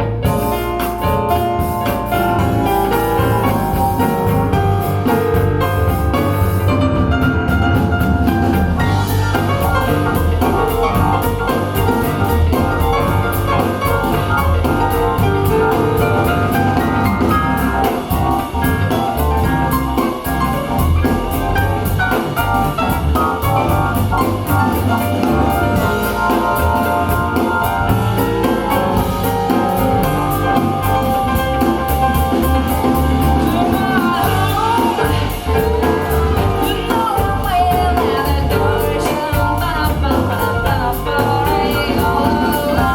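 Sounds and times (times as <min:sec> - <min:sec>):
jazz with drums and piano: 0:00.0 - 0:42.9.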